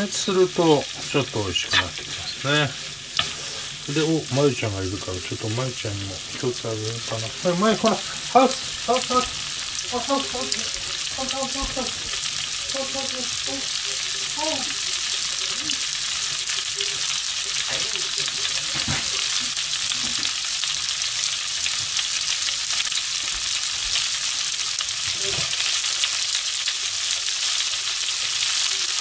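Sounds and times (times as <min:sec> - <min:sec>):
food sizzling in frying pan: 0:00.0 - 0:29.0.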